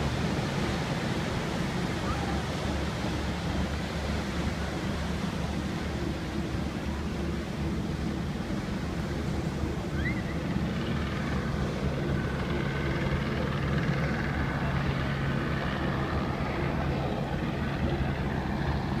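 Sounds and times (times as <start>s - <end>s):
diesel engine drone: 0.0s - 19.0s
water churning along hull: 0.0s - 19.0s.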